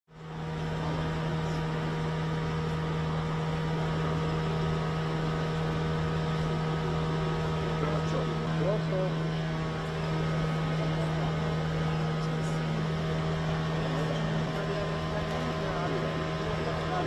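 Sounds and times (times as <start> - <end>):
motor humming: 0.2 - 17.0.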